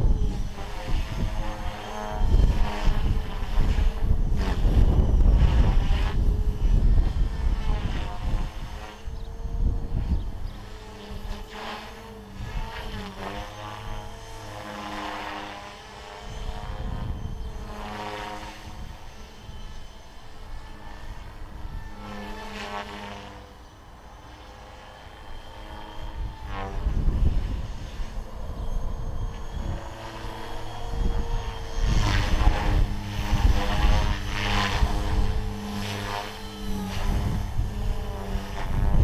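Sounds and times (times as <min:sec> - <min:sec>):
rc helicopter motor whine: 0:00.0 - 0:39.0.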